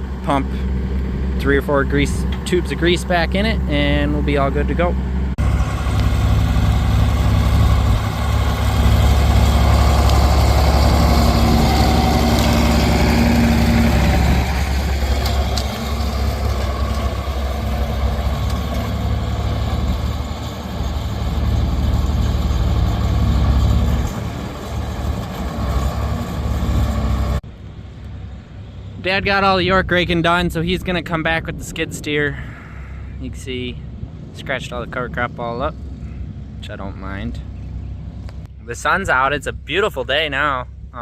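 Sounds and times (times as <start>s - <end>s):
diesel excavator engine droning: 0.0s - 41.0s.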